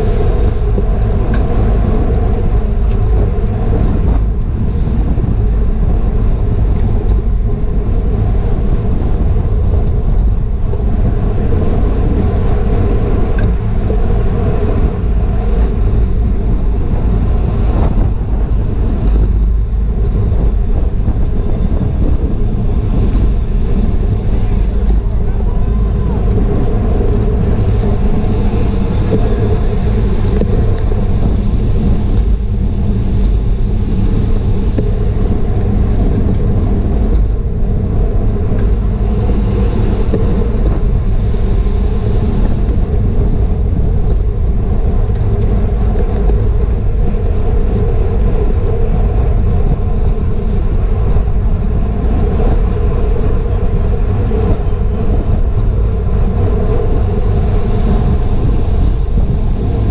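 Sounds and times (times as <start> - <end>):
road rumble: 0.0 - 59.9
wind on microphone: 0.0 - 59.9.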